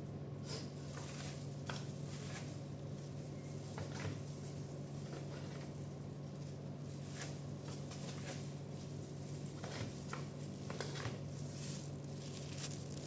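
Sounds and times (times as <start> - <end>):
steady low hum: 0.0 - 13.0
soft taps and rustles of handling: 0.8 - 13.0.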